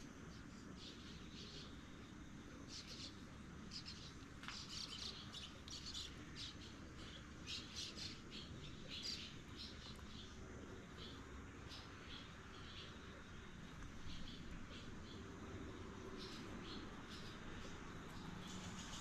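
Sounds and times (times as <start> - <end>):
low background hum: 0.0 - 19.0
small birds chirping: 0.0 - 19.0.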